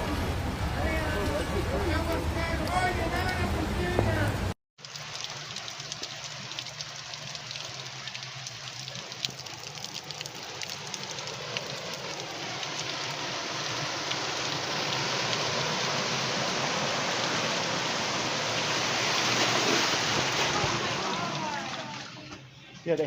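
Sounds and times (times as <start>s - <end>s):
rain and rushing floodwater: 0.0s - 22.5s.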